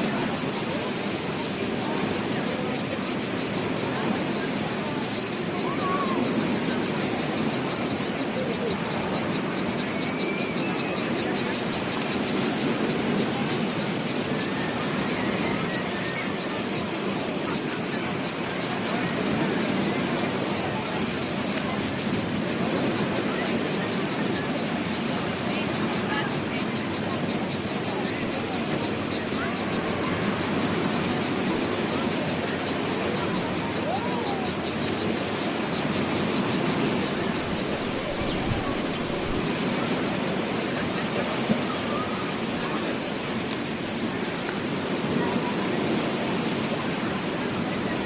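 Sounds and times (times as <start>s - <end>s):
insects trilling: 0.0s - 48.0s
surf on a beach: 0.0s - 48.0s.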